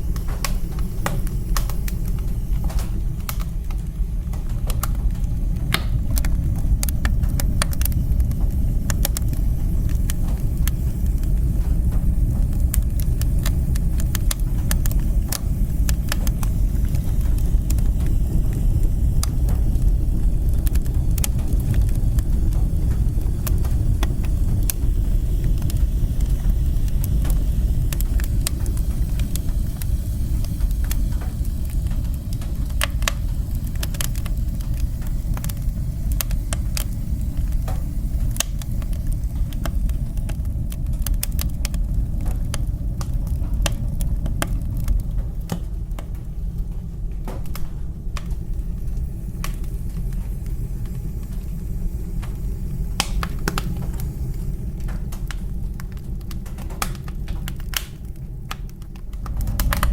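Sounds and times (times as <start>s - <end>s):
fire crackling in fireplace: 0.0s - 59.9s.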